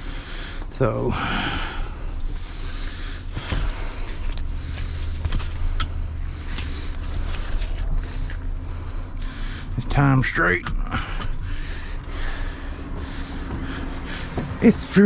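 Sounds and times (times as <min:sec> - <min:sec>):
truck engine idling: 0:00.0 - 0:15.0
rigging clicking and rustling: 0:01.7 - 0:15.0.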